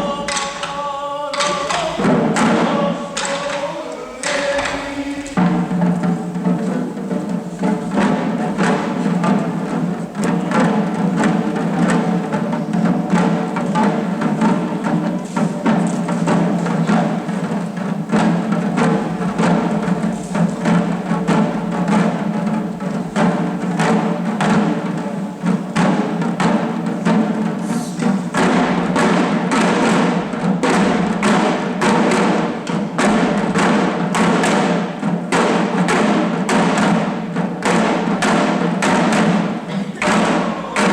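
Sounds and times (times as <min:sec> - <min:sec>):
taiko drums beating: 0:00.0 - 0:40.9.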